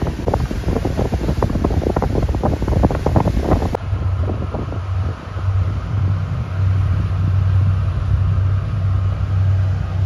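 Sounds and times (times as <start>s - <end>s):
boat engine rumbling: 0.0s - 10.0s.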